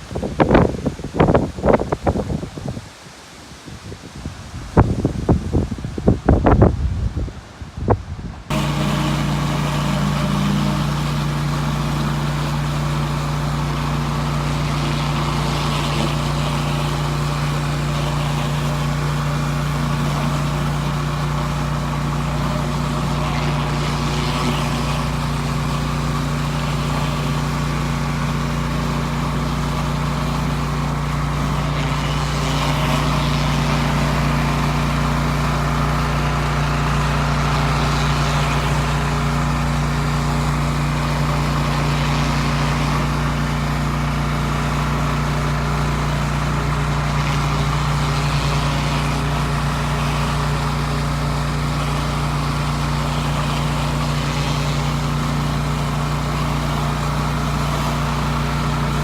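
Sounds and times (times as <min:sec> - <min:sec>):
pressure washer running: 0:08.5 - 0:59.0
water spraying onto concrete: 0:08.5 - 0:59.0.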